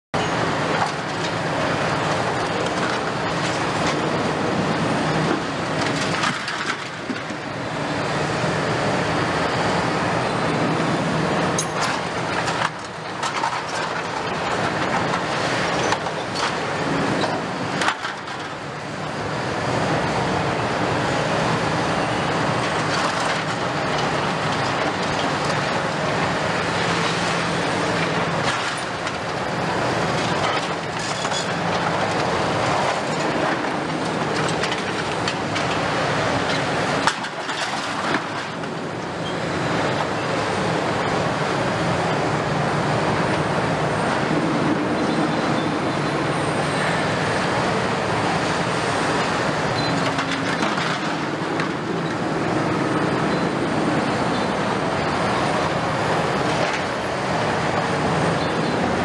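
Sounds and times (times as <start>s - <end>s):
excavator diesel engine hum: 0.2s - 59.0s.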